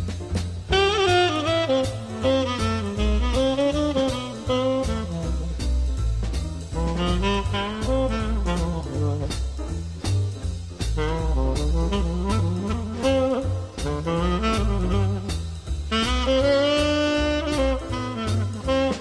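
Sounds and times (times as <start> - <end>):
swing jazz music: 0.0 - 19.0.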